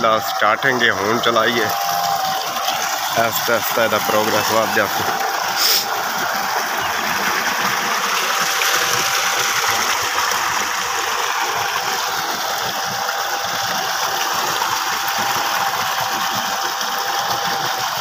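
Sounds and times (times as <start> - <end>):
water gushing into a concrete tank: 0.0 - 18.0.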